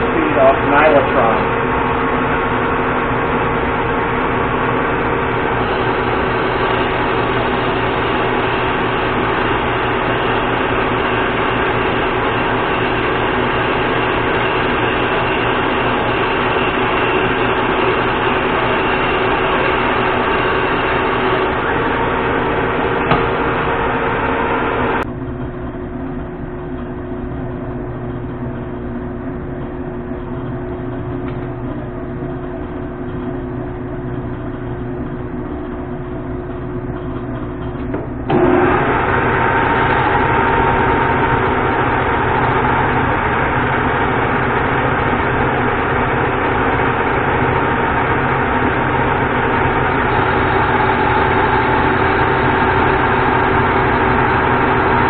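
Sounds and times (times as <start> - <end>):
lathe running with steady whine: 0.0 - 55.0
steady hum: 0.0 - 55.0.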